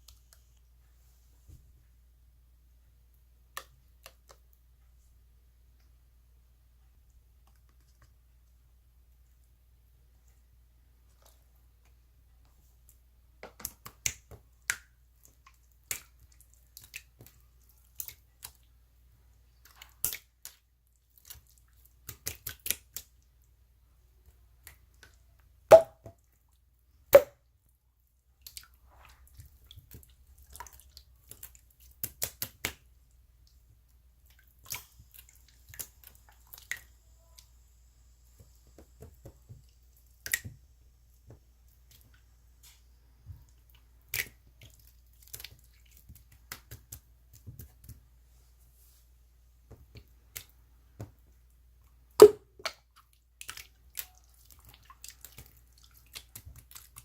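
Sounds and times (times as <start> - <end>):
small clicks and wet pops: 0.0 - 1.7, 3.1 - 6.0, 6.7 - 37.6, 38.3 - 48.2, 49.6 - 57.0.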